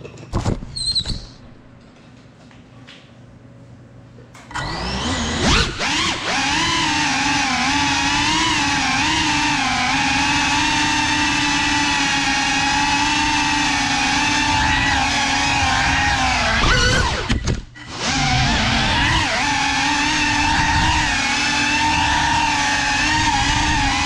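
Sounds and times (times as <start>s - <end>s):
drone motors whining: 4.5s - 24.0s.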